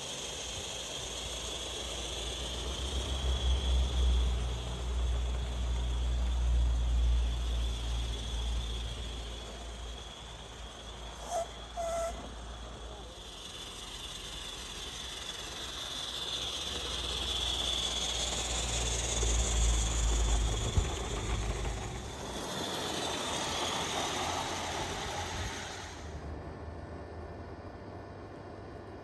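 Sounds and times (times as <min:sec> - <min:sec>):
steam hissing: 0:00.0 - 0:26.3
wagons rolling on track: 0:02.4 - 0:26.2.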